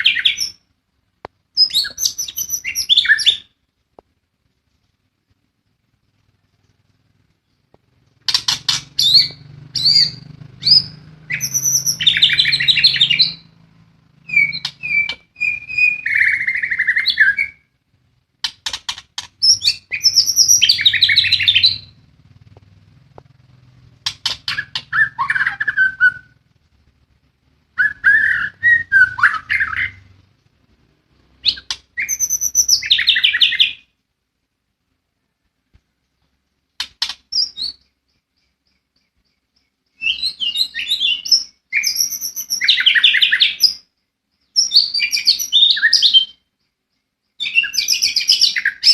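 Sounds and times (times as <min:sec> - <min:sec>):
songbird singing: 0:00.0 - 0:03.8, 0:05.8 - 0:34.0, 0:35.2 - 0:48.9.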